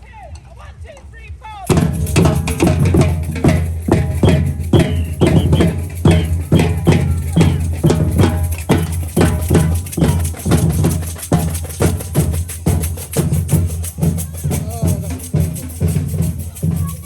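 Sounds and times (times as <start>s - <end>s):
parade drums and percussion music: 0.1s - 17.0s.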